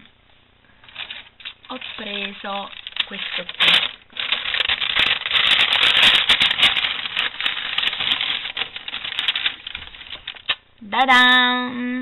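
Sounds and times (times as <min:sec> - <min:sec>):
plastic bag crinkling: 0:00.8 - 0:10.7.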